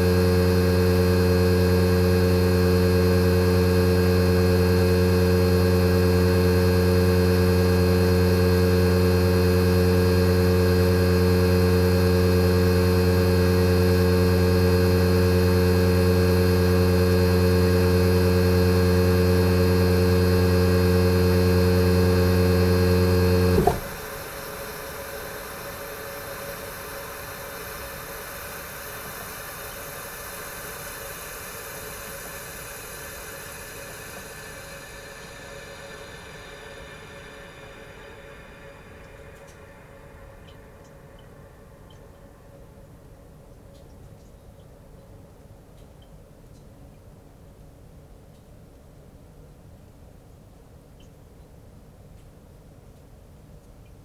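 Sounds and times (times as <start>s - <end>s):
air conditioner compressor hum: 0.0s - 43.8s.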